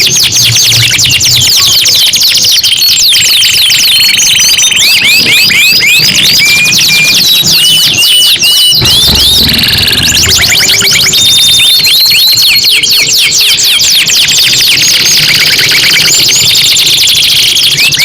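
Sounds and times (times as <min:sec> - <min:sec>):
canaries singing: 0:00.0 - 0:18.0.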